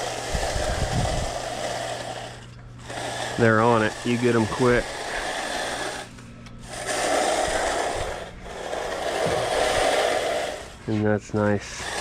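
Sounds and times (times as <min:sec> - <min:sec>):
tool scraping wet concrete: 0:00.0 - 0:12.0.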